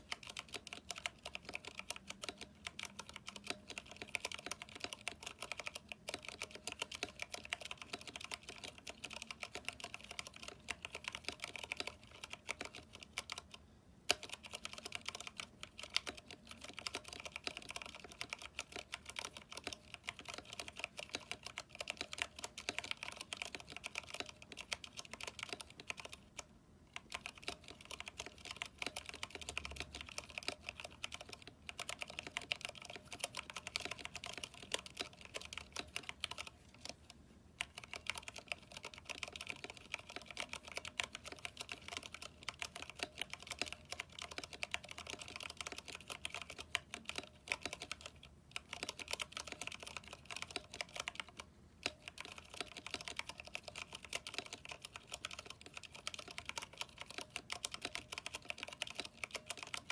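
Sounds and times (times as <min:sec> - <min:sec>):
fast typing on mechanical keyboard: 0:00.0 - 0:37.0, 0:37.6 - 0:59.9.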